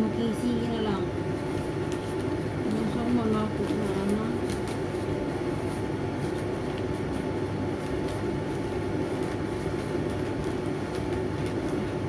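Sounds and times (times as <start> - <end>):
machine low hum: 0.0 - 12.0
paper crinkling: 1.2 - 12.0.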